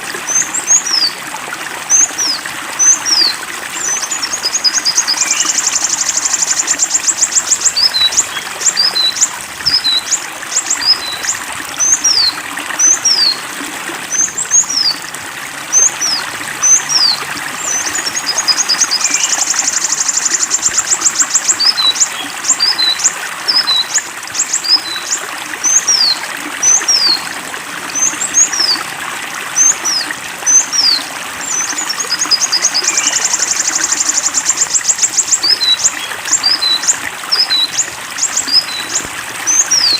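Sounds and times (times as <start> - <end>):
water trickling: 0.0 - 39.9
songbird trilling and whistling: 1.9 - 13.4, 15.8 - 27.2, 29.6 - 39.9.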